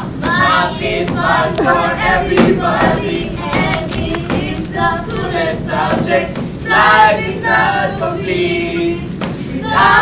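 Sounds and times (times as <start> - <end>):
audience crowd noise: 0.0 - 8.6
group of people singing: 0.0 - 10.0.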